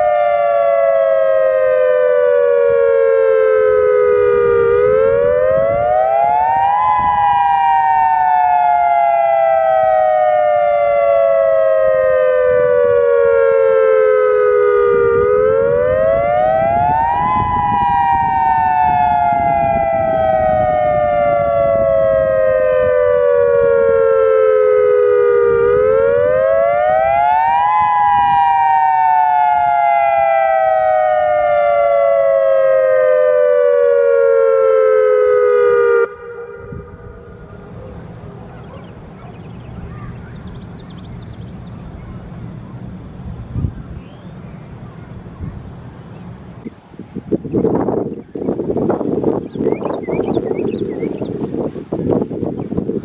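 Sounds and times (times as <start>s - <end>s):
dual-tone warning siren: 0.0s - 46.7s, 47.6s - 53.0s.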